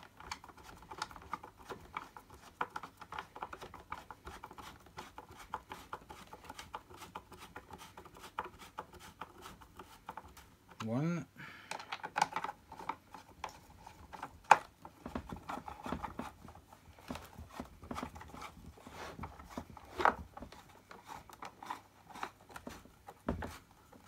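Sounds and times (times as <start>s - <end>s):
plastic parts clicking and knocking: 0.0s - 10.9s, 11.6s - 24.0s.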